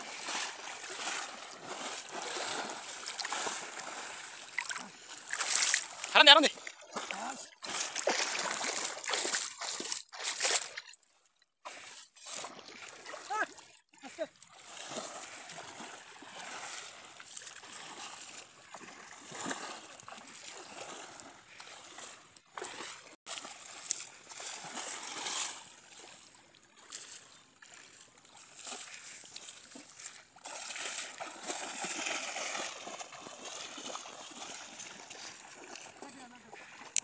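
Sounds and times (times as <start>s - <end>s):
water splashing and sloshing: 0.0s - 37.0s.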